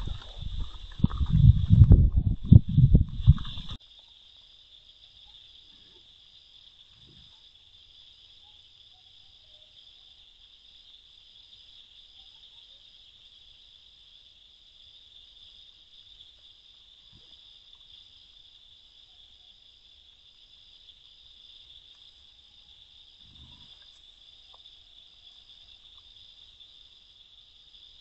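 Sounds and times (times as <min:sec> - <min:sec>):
night insects chirping: 0:00.0 - 0:28.0.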